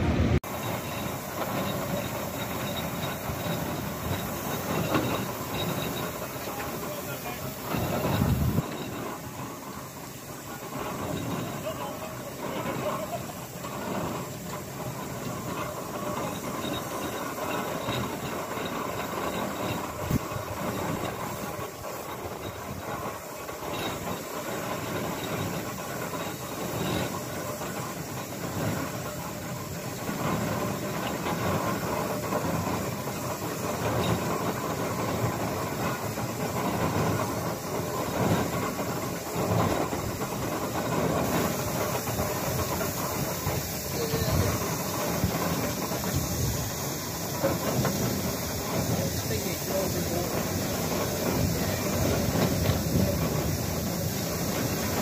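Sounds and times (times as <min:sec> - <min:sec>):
hiss of steam: 0:00.0 - 0:55.0
steam engine chuffing: 0:00.0 - 0:55.0.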